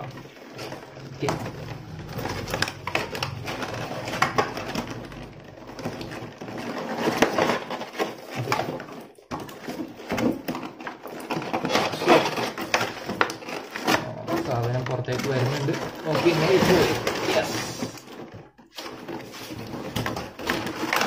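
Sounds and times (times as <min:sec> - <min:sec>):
cardboard scraping: 0:00.0 - 0:21.0
plastic wrap rustling: 0:00.0 - 0:21.0.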